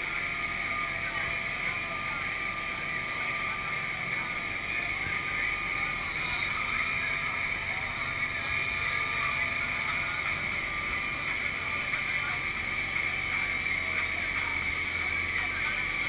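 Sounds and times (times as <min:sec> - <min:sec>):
engine droning: 0:00.0 - 0:16.0
thin steady whine: 0:00.0 - 0:16.0
water rushing along hull: 0:00.0 - 0:16.0.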